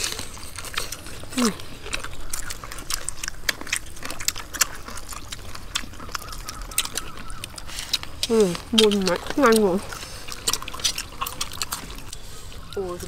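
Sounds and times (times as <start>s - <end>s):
wet mouth clicks and smacks: 0.0s - 12.8s
people chewing and biting: 0.0s - 13.0s.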